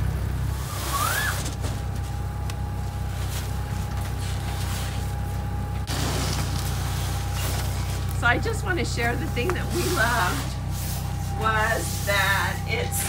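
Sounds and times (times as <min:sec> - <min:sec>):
forklift engine idling: 0:00.0 - 0:13.0
thin steady whine: 0:00.0 - 0:13.0.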